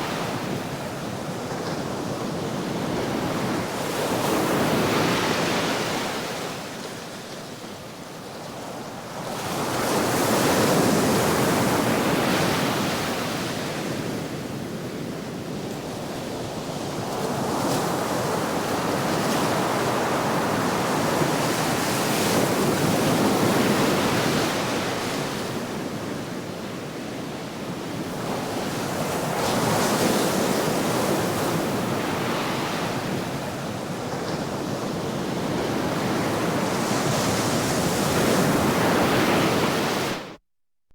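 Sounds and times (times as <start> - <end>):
ocean waves washing onto shore: 0.0 - 40.4.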